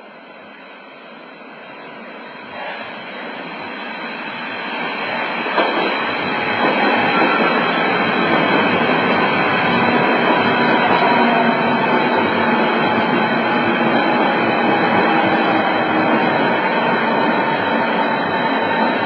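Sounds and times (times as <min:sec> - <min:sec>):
electric train arriving: 0:00.0 - 0:19.0
steady train whine: 0:00.0 - 0:19.0.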